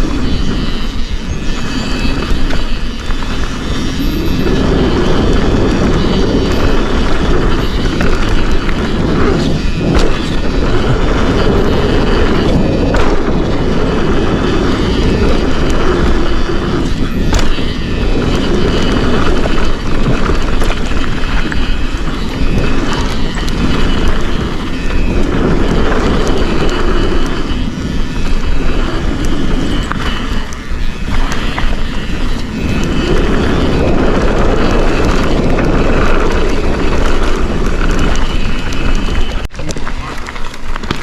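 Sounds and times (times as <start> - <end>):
bike clicks and rattles: 0.0 - 41.0
tyres rolling over dirt trail: 0.0 - 41.0
wind rushing over microphone: 0.0 - 41.0.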